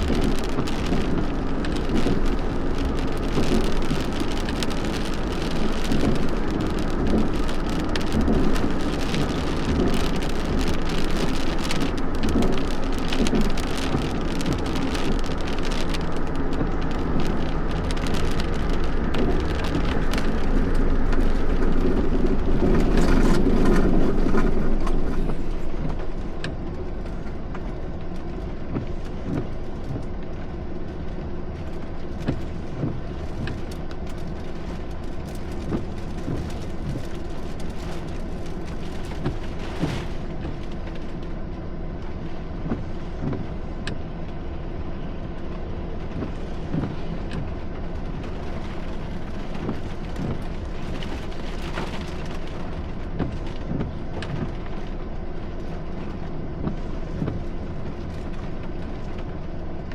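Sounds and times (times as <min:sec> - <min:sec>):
heavy rain drumming on hard surface: 0:00.0 - 0:59.9.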